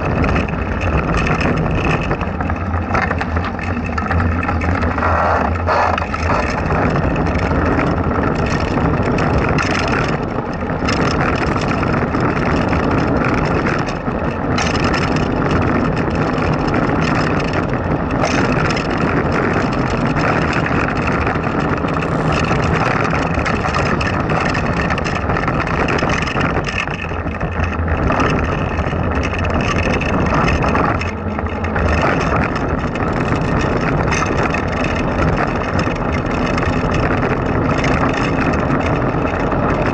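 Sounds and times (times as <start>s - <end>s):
small tyres rumbling on asphalt: 0.0s - 39.9s
wind buffeting microphone: 0.0s - 39.9s.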